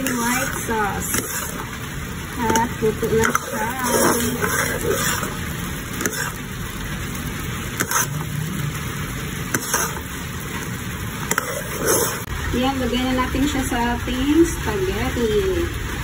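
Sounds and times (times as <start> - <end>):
sauce bubbling in a pan: 0.0 - 13.1.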